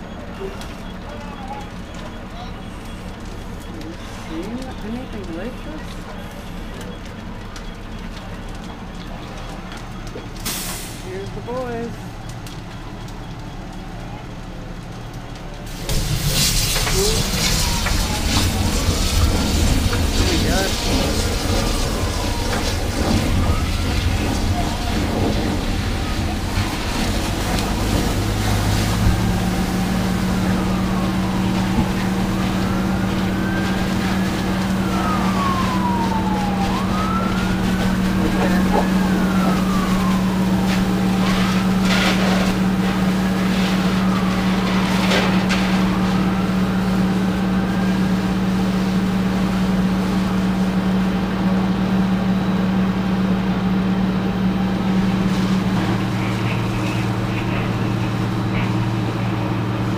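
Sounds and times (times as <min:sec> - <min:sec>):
low engine drone: 0:00.0 - 0:59.9
siren wailing: 0:11.2 - 0:59.9.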